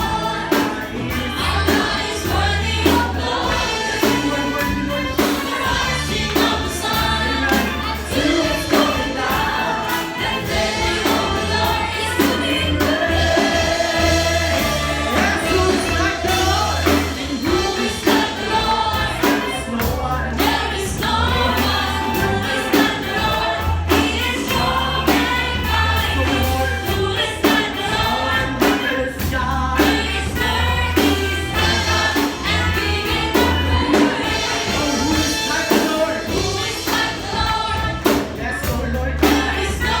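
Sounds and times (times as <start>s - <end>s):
band playing: 0.0s - 40.0s
bass line: 0.0s - 40.0s
drum beat: 0.0s - 40.0s
group singing worship song: 0.0s - 40.0s.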